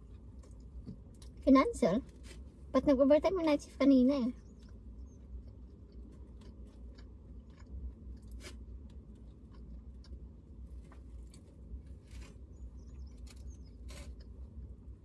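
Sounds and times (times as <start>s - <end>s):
chewing and crunching food: 0.0s - 2.8s, 3.8s - 15.0s
steady low rumble: 0.0s - 15.0s.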